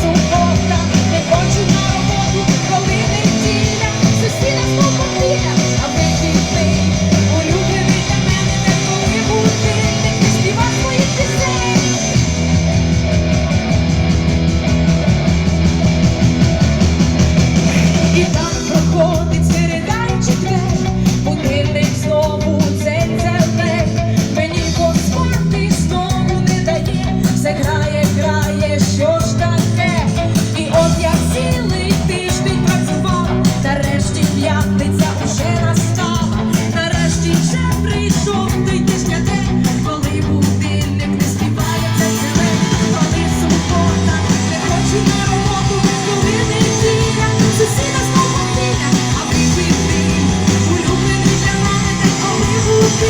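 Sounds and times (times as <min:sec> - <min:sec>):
person singing: 0:00.0 - 0:12.4, 0:17.6 - 0:53.0
band playing a song: 0:00.0 - 0:53.0.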